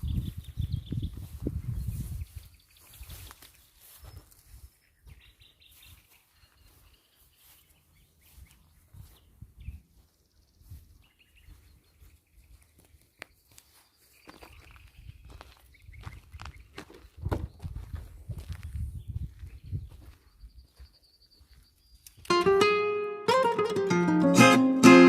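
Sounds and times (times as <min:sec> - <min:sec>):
small birds chirping: 0:00.0 - 0:22.3.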